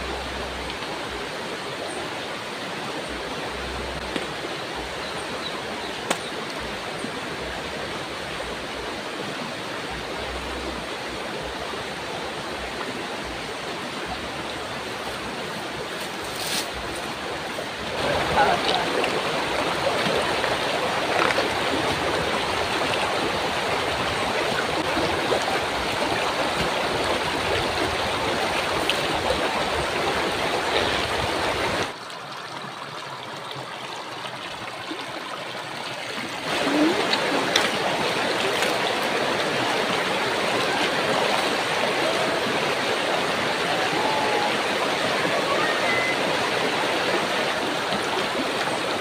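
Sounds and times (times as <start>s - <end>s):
water rushing over stones: 0.0s - 49.0s.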